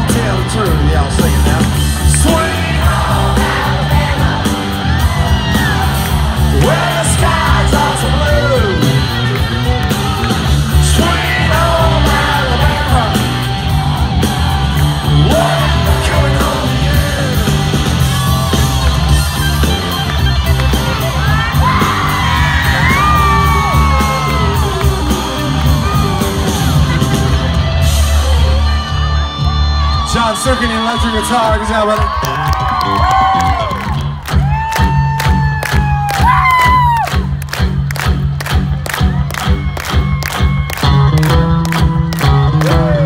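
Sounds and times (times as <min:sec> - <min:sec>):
crowd yelling: 0:00.0 - 0:37.5, 0:38.4 - 0:43.0
live country-rock band: 0:00.0 - 0:43.0.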